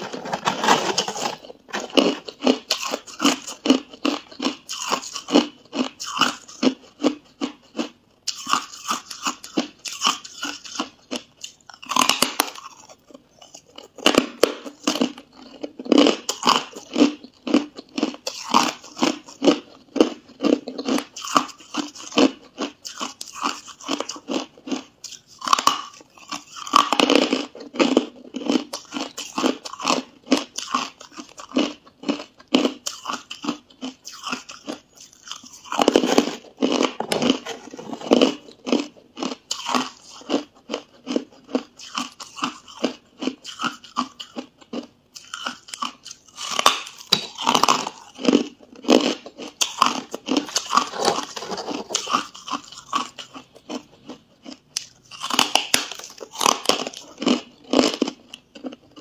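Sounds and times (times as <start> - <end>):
teeth crunching ice: 0.0 - 59.0.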